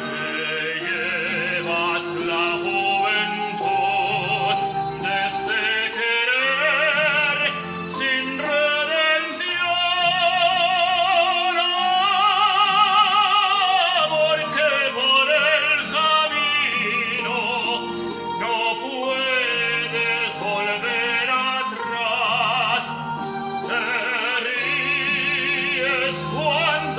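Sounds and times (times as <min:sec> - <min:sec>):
instrumental backing: 0:00.0 - 0:26.9
man singing operatically: 0:00.0 - 0:26.9.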